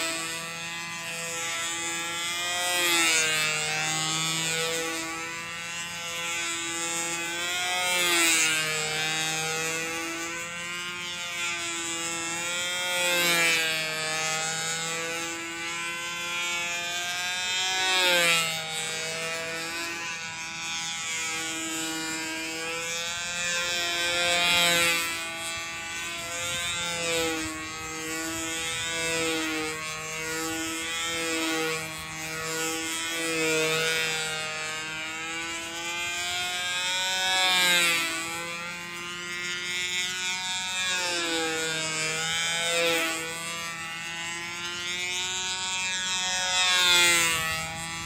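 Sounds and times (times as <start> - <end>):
model airplane engine buzzing: 0.0 - 48.0.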